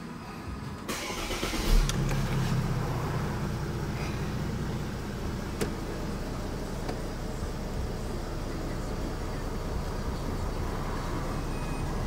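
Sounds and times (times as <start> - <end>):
car engine idling: 0.0 - 12.0
car engine starting: 0.5 - 12.0.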